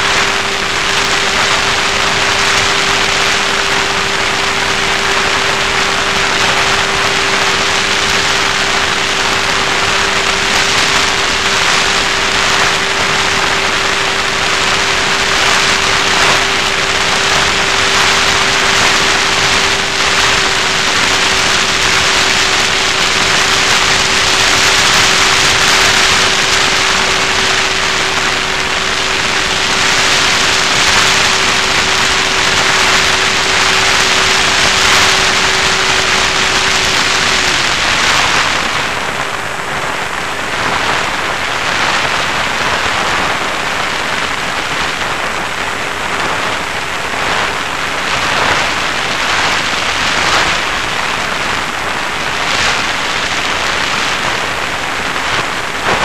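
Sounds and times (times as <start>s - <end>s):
airflow rushing over microphone: 0.0s - 56.0s
electric motor humming: 0.0s - 56.0s.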